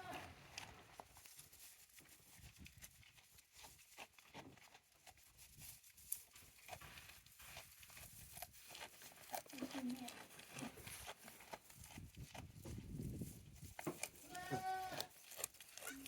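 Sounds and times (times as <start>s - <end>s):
goats clicking and rustling: 0.0s - 16.0s.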